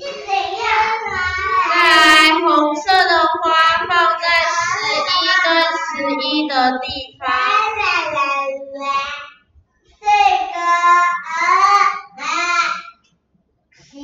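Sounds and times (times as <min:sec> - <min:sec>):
child singing in a high voice: 0:00.0 - 0:09.2, 0:10.0 - 0:12.8.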